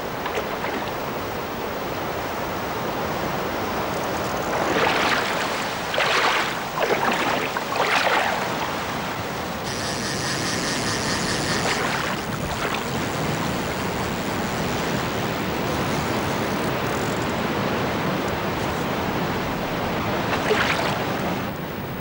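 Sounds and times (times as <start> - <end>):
water splashes: 0.0 - 2.2, 3.0 - 21.6.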